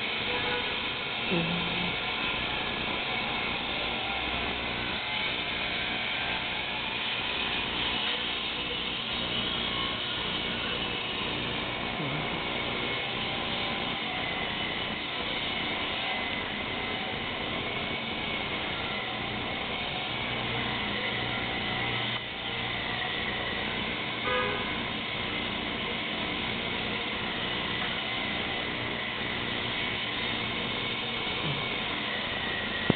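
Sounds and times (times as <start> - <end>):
steady mechanical hum and hiss: 0.0 - 32.9.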